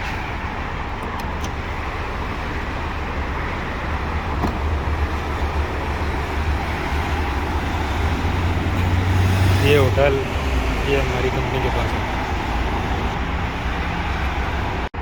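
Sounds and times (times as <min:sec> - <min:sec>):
low vehicle rumble: 0:00.0 - 0:15.0
road traffic hiss: 0:00.0 - 0:15.0.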